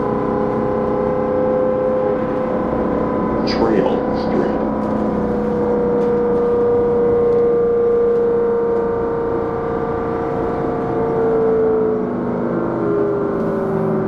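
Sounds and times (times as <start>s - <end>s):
low hum: 0.0s - 14.0s
road rumble: 0.0s - 14.0s.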